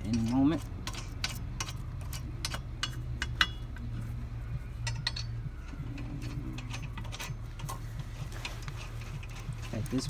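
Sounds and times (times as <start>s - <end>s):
lug nuts clinking on wheel studs: 0.0s - 10.0s
steady low hum: 0.0s - 10.0s.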